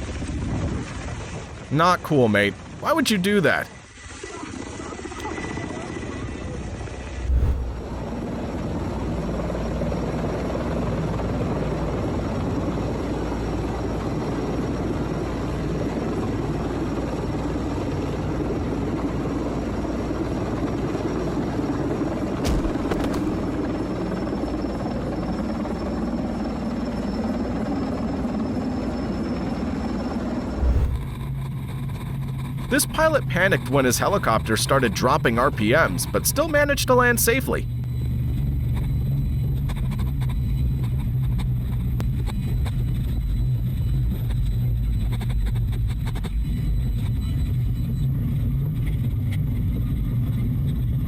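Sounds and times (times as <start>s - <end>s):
helicopter running: 0.1s - 51.0s.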